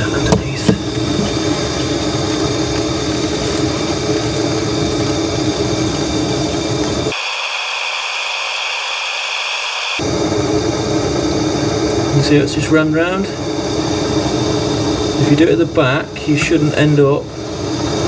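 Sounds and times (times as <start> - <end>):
blowtorch flame roaring: 0.0 - 18.0.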